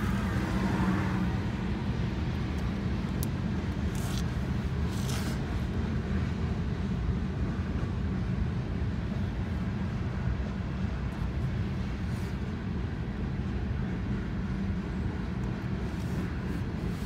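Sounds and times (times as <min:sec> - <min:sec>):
freight train rumbling past: 0:00.0 - 0:03.8, 0:05.7 - 0:17.0.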